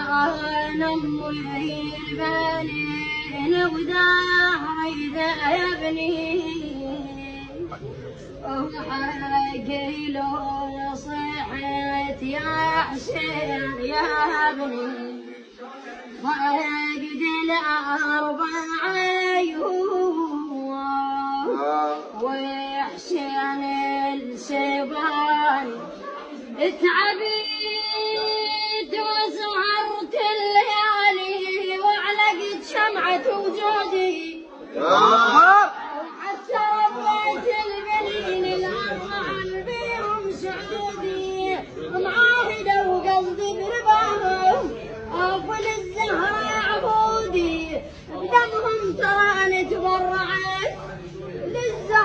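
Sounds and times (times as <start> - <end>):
boy singing a mournful lament: 0.0 - 15.4, 16.2 - 25.9, 26.6 - 52.0.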